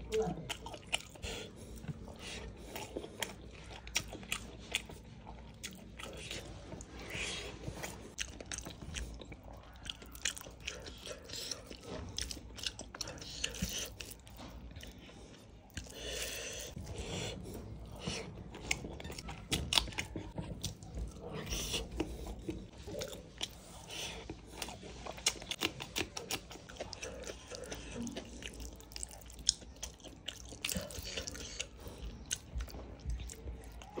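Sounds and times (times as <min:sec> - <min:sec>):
chewing with wet smacks: 0:00.0 - 0:34.0.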